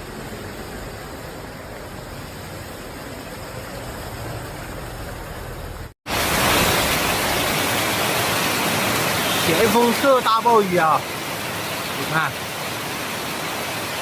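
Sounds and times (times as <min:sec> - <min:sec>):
heavy rain and floodwater rushing: 0:00.0 - 0:14.0.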